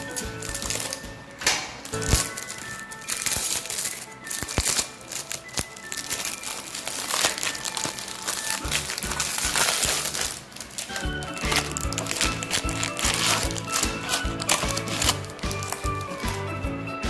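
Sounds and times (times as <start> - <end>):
plastic wrapper crinkling: 0.0 - 16.7
background music: 0.0 - 17.0.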